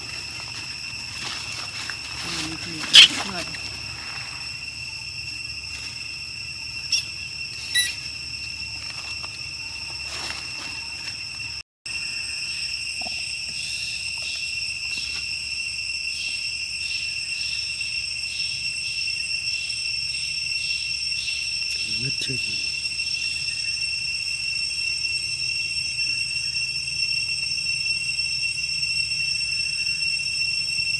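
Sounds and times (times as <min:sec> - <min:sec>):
shrill insect chorus: 0:00.0 - 0:30.9.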